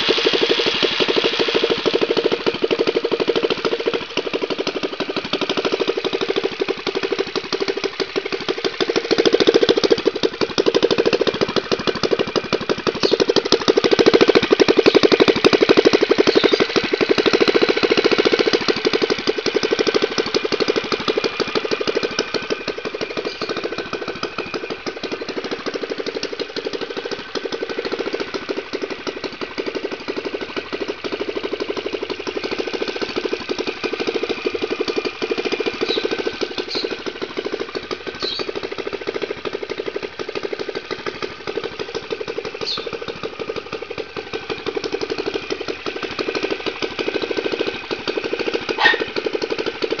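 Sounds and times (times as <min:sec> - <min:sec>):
motorized bicycle engine idling: 0:00.0 - 0:50.0.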